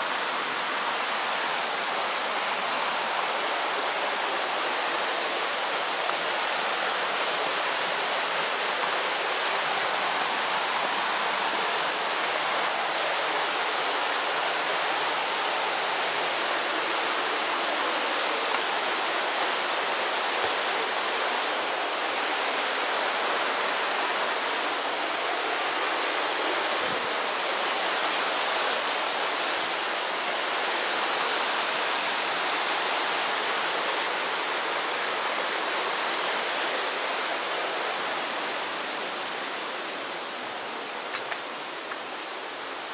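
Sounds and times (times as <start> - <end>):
river rushing over stones: 0.0 - 42.9.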